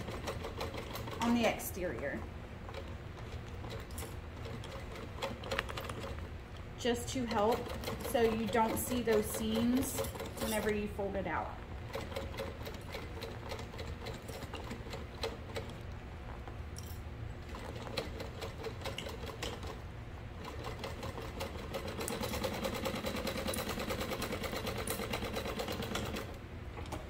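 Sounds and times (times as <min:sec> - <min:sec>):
industrial sewing machine stitching: 0:00.0 - 0:02.0, 0:02.7 - 0:06.2, 0:06.9 - 0:11.0, 0:11.9 - 0:15.8, 0:17.5 - 0:19.8, 0:20.4 - 0:26.4.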